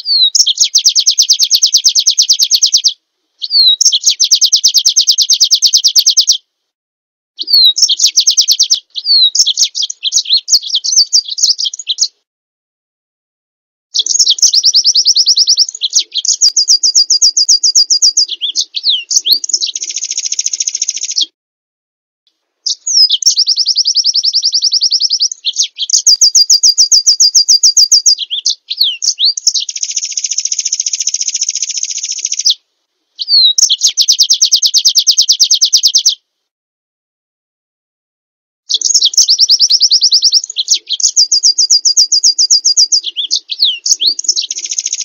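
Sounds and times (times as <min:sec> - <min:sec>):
songbird trilling: 0:00.0 - 0:06.4, 0:07.4 - 0:12.2, 0:14.0 - 0:21.3, 0:22.6 - 0:32.6, 0:33.2 - 0:36.2, 0:38.7 - 0:45.0.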